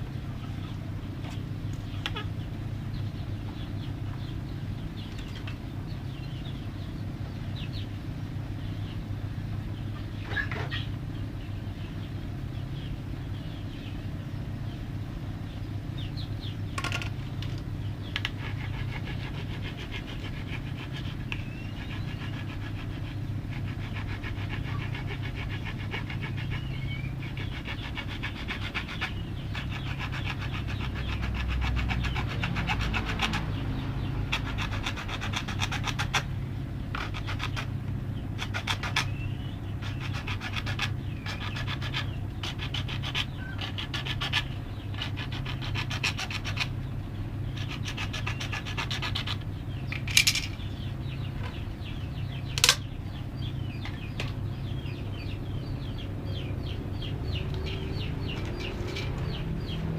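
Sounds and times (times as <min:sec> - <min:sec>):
low motor hum: 0:00.0 - 0:59.9.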